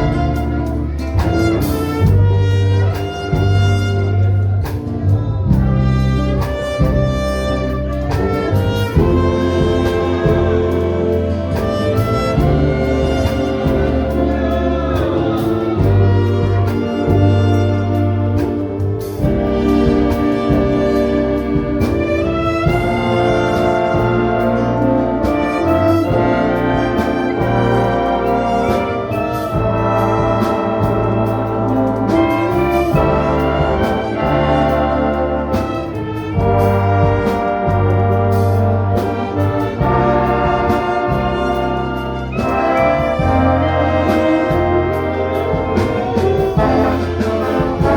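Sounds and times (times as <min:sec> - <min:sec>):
orchestra playing: 0:00.0 - 0:47.9
percussive beat: 0:00.0 - 0:47.9.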